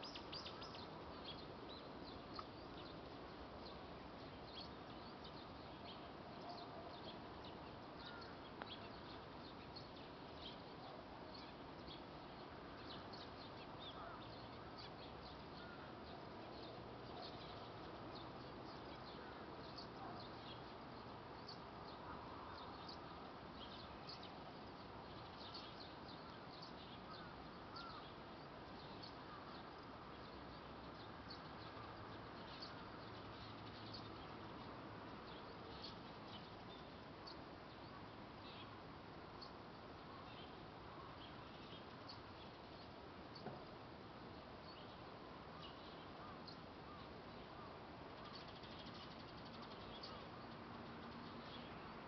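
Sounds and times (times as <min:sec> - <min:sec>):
outdoor ambience hiss: 0:00.0 - 0:52.0
small birds chirping: 0:00.0 - 0:52.0.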